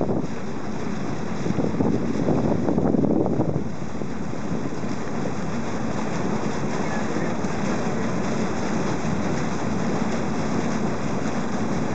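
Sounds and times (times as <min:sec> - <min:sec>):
boat engine drone: 0:00.0 - 0:11.9
water rushing past hull: 0:00.0 - 0:11.9.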